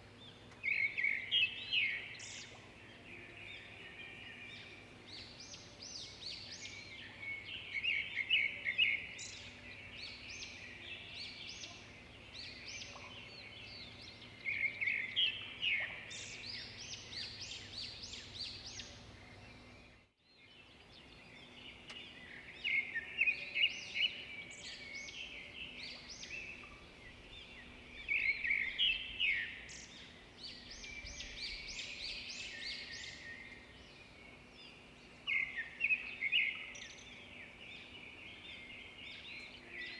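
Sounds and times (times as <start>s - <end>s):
faint background hiss: 0.0s - 39.9s
songbirds chirping: 0.0s - 39.9s.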